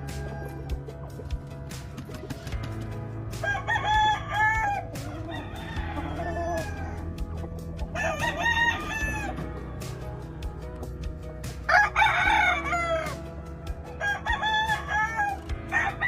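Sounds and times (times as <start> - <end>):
roosters crowing: 0.0 - 1.2, 3.3 - 10.7, 11.5 - 16.0.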